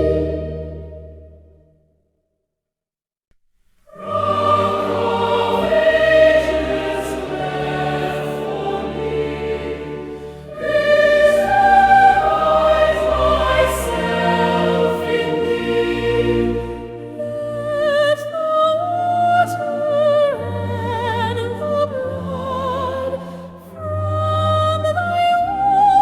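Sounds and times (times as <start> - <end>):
choir singing a hymn: 0.0 - 1.0, 3.9 - 26.0.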